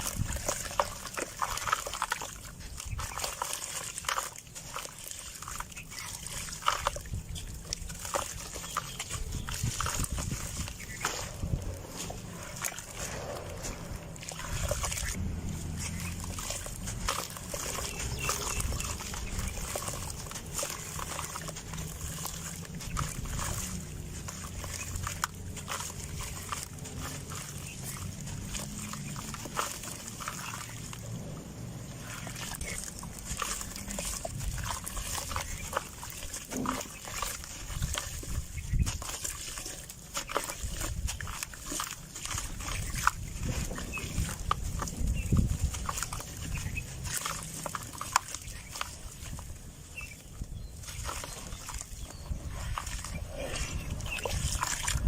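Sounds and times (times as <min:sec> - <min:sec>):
dry dirt crunching: 0:00.0 - 0:55.0.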